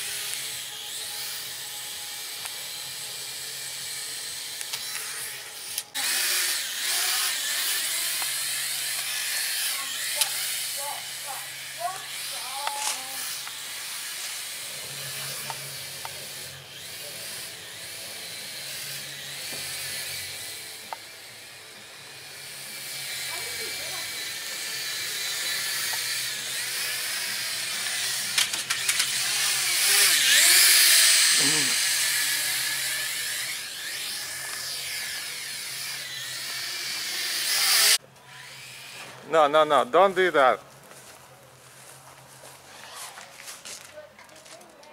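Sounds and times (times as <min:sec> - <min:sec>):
drone propellers whining: 0:00.0 - 0:39.2.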